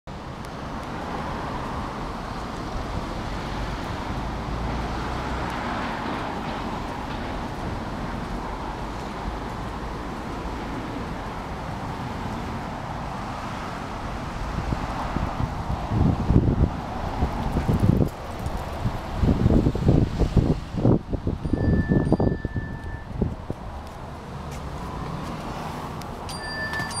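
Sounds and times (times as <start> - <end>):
road traffic hiss and rumble: 0.1 - 27.0.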